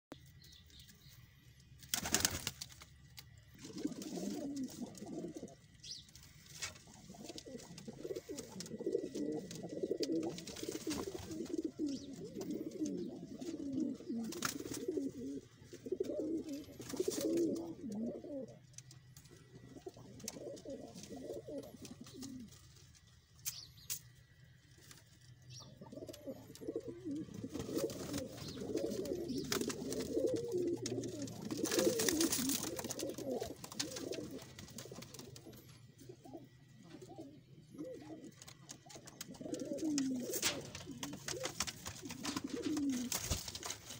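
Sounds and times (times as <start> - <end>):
pigeons cooing: 3.5 - 6.0, 6.6 - 22.6, 25.6 - 43.9.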